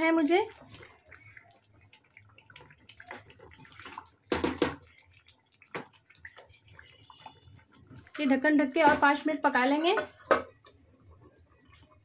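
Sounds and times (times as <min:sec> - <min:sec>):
wooden spatula stirring: 0:00.0 - 0:09.2, 0:09.8 - 0:12.0
gravy bubbling in a pot: 0:00.0 - 0:12.0.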